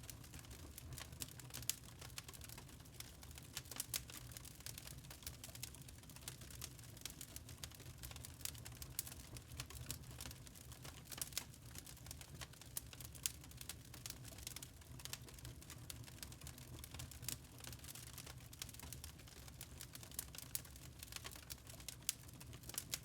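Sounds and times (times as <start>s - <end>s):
log fire crackling: 0.0s - 23.0s.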